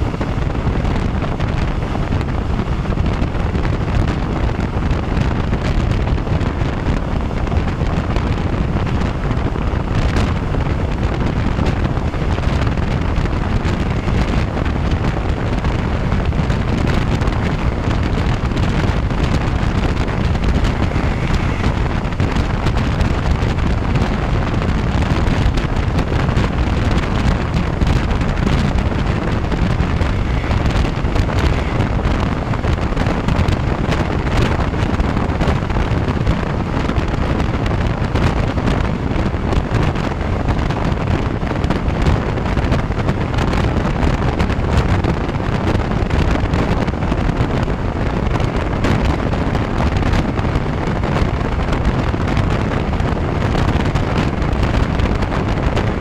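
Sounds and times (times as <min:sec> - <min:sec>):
train running on track: 0:00.0 - 0:56.0
wind buffeting microphone: 0:00.0 - 0:56.0.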